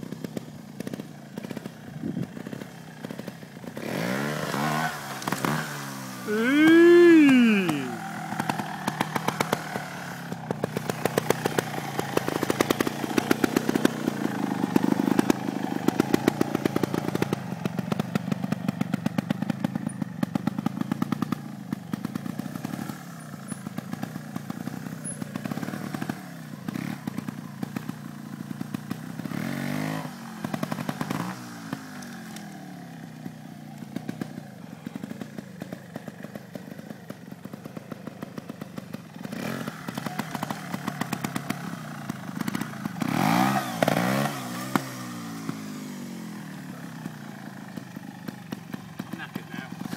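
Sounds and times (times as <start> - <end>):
motorcycle engine with throttle blips: 0.0 - 49.9.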